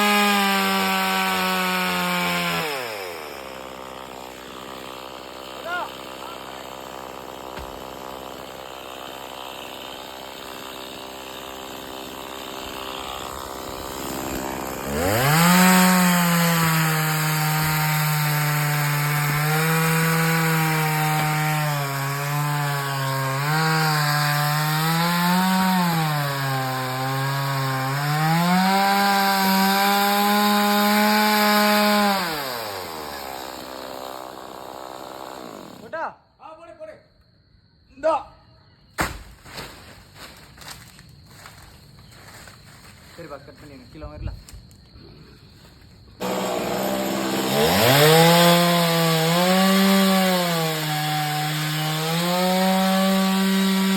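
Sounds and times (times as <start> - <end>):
chainsaw cutting wood: 0.0 - 36.0, 46.2 - 53.9
chainsaw idling and revving: 0.0 - 36.0, 46.2 - 53.9.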